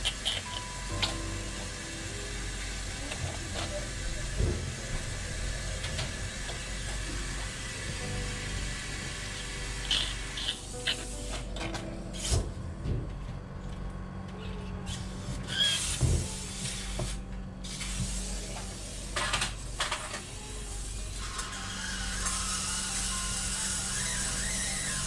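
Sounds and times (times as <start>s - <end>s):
steady low hum: 0.0s - 21.1s.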